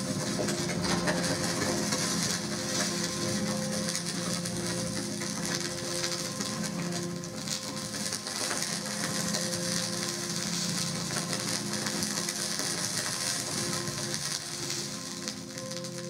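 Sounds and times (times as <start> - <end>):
crackling grainy noise texture: 0.0 - 16.0.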